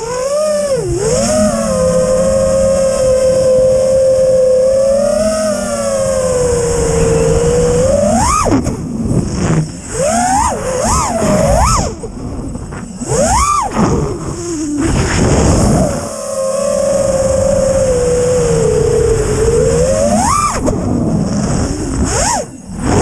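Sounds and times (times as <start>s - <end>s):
drone motors whining: 0.0s - 23.0s
rough rushing noise: 0.0s - 23.0s.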